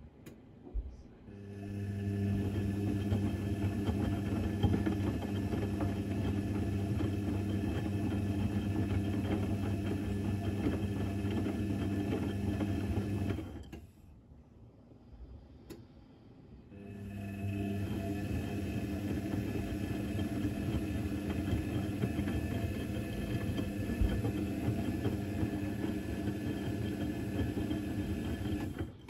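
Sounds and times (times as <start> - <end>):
washing machine motor hum: 0.8 - 14.0, 16.7 - 29.0
wet laundry churning clatter: 1.7 - 13.6, 17.0 - 29.0.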